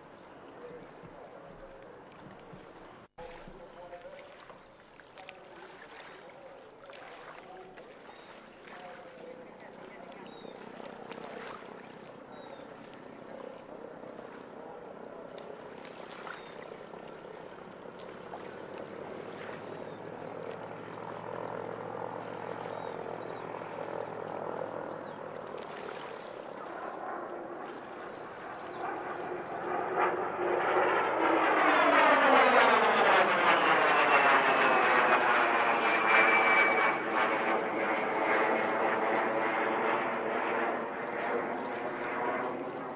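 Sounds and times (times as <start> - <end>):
radial aircraft engines humming: 0.0 - 42.9.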